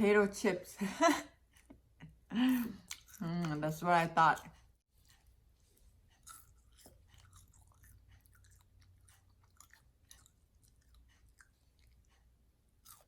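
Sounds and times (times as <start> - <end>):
faint crunchy chewing: 1.4 - 13.0.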